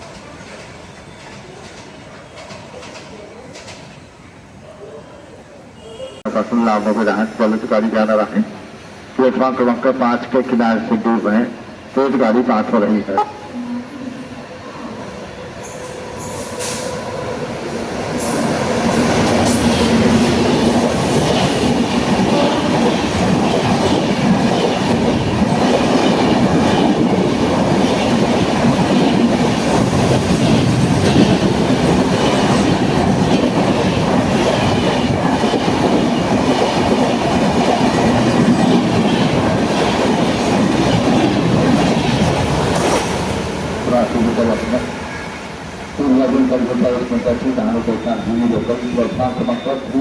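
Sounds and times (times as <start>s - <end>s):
express train passing: 0.0s - 50.0s.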